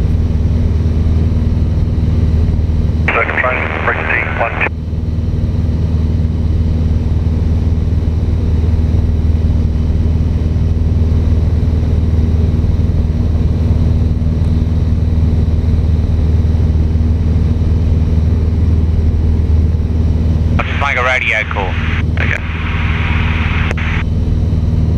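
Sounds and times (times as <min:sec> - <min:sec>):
light aircraft engine droning: 0:00.0 - 0:24.9.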